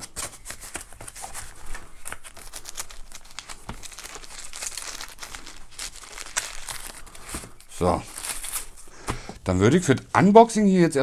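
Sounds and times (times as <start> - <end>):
paper crinkling: 0.0 - 9.2.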